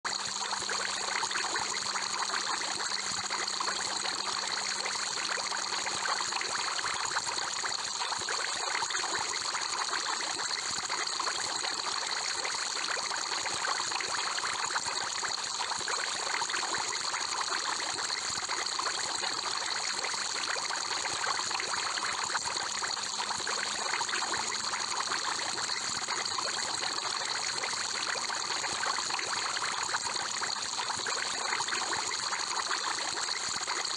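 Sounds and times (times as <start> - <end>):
aquarium water bubbling: 0.1 - 33.9.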